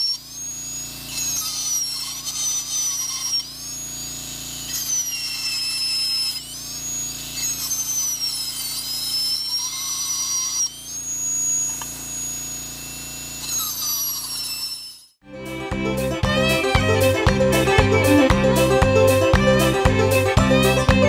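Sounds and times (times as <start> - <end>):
dental drill whining on metal: 0.0 - 21.0.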